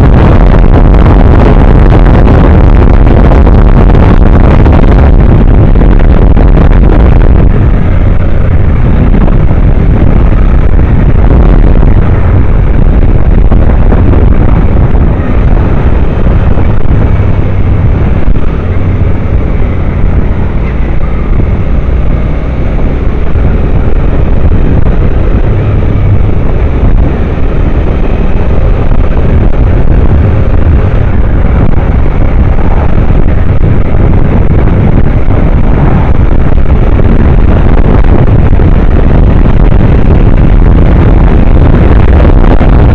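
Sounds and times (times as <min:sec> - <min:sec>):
motorcycle engine: 0:00.0 - 0:42.9
wind rumble on microphone: 0:00.0 - 0:42.9.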